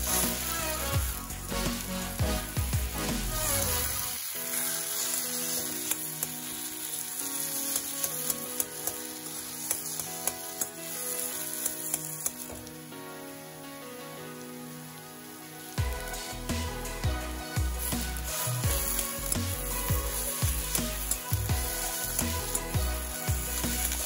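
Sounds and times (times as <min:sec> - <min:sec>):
food sizzling in pan: 0:00.0 - 0:24.0
soft background music: 0:00.0 - 0:24.0.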